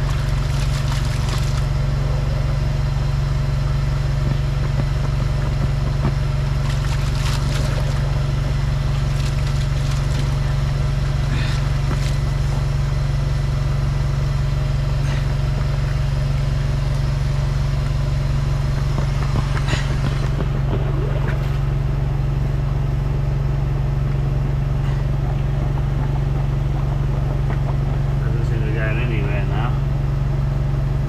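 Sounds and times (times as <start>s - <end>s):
drain jetting engine humming: 0.0s - 31.0s.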